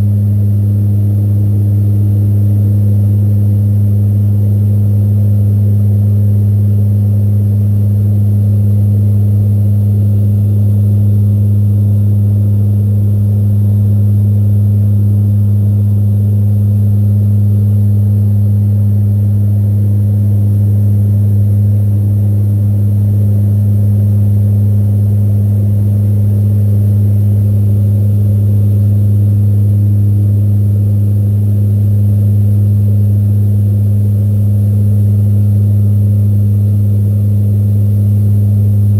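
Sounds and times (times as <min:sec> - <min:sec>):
aircraft cabin engine drone: 0:00.0 - 0:38.9.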